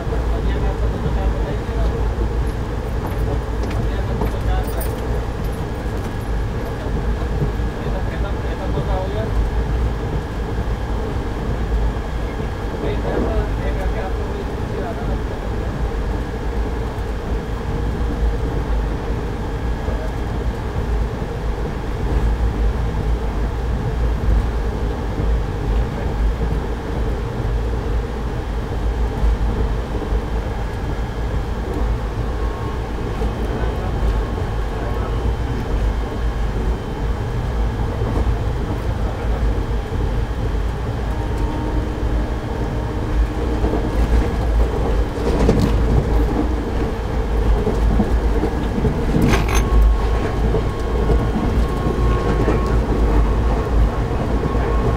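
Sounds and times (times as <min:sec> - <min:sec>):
train rumble on board: 0:00.0 - 0:54.9.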